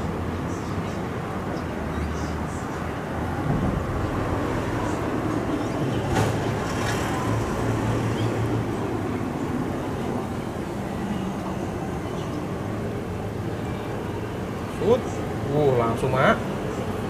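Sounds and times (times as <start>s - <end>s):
low engine hum: 0.0s - 17.0s
noisy background: 0.0s - 17.0s.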